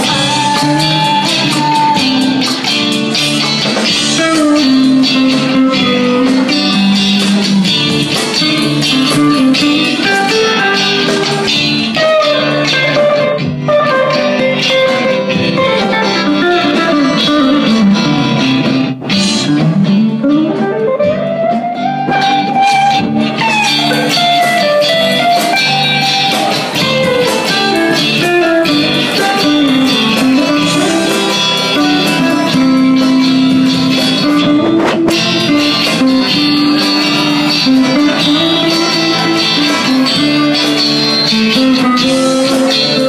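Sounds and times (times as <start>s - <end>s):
bass guitar: 0.0s - 43.0s
electric guitars: 0.0s - 43.0s
guitar lead line bending: 0.0s - 43.0s.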